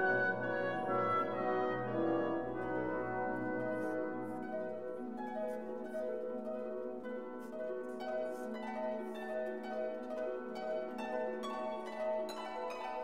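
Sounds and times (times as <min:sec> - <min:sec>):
background music melody: 0:00.0 - 0:13.0.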